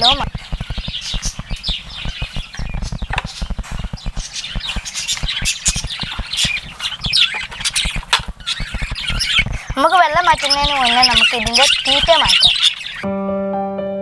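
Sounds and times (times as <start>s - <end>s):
low thumps: 0.0s - 13.0s
lovebirds chattering and squawking: 0.0s - 13.1s.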